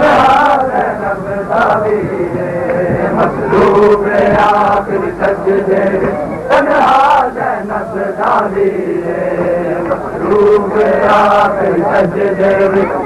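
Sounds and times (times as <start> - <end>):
crowd of men chanting: 0.0 - 13.0.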